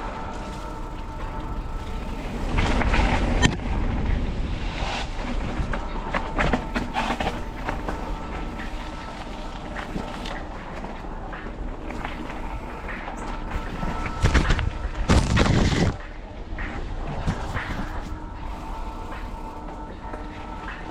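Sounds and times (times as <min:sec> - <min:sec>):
mountain bike tyre noise: 0:00.0 - 0:20.9.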